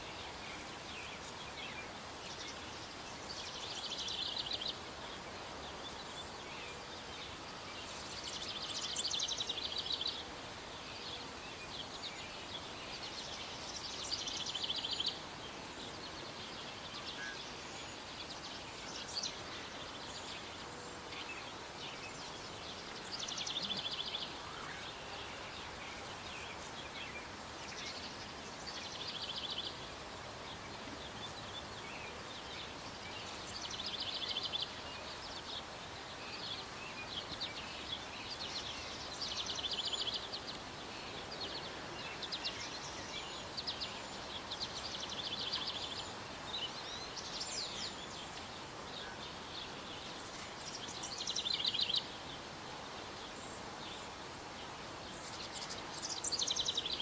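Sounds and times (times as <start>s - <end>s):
steady outdoor hiss: 0.0s - 57.0s.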